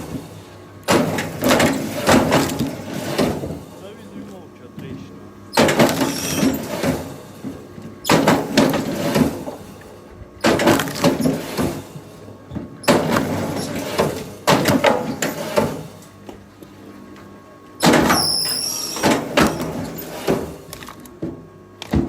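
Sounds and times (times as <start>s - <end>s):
faint machine hum: 0.0s - 22.0s.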